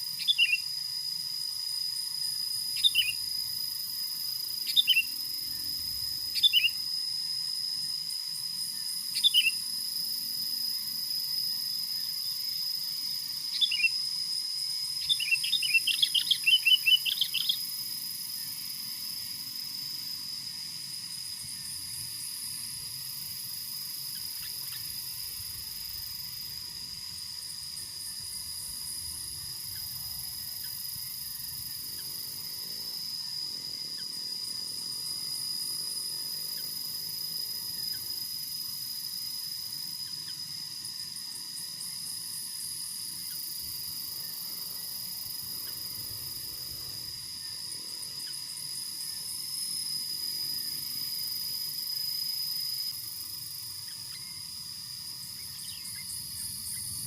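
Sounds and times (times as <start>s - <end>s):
high pulsing insect trill: 0.0s - 57.0s
insects droning: 0.0s - 57.0s.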